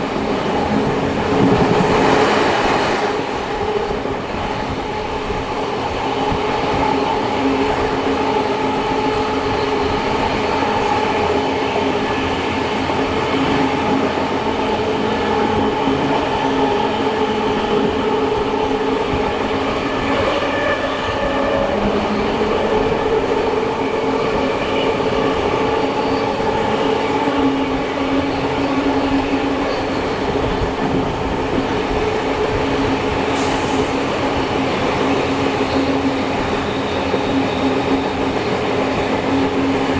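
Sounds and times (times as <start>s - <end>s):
train rolling on rails: 0.0s - 39.9s.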